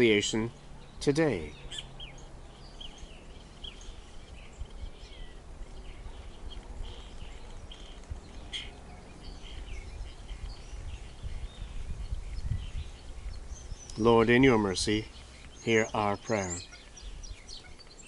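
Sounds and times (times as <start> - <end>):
small birds chirping: 0.0 - 18.0
wind rumble on microphone: 1.9 - 15.7, 16.6 - 18.0.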